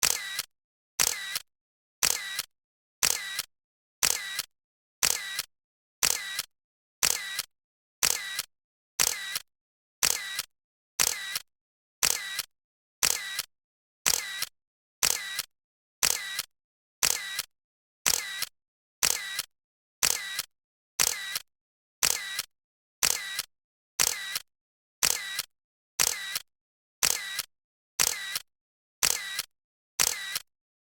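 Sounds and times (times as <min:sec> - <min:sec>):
camera shutter double clicks: 0:00.0 - 0:01.4, 0:02.0 - 0:09.4, 0:10.0 - 0:11.4, 0:12.0 - 0:13.5, 0:14.1 - 0:17.5, 0:18.1 - 0:21.4, 0:22.0 - 0:24.4, 0:25.0 - 0:26.4, 0:27.0 - 0:28.4, 0:29.0 - 0:30.5.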